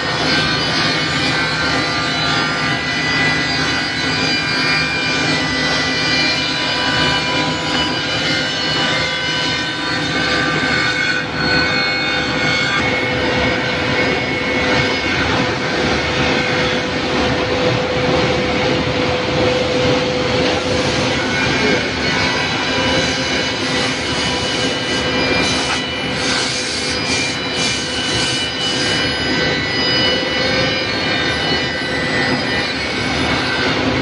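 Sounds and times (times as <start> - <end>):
dense mechanical noise: 0.0 - 34.0
saw motors whining: 0.0 - 34.0.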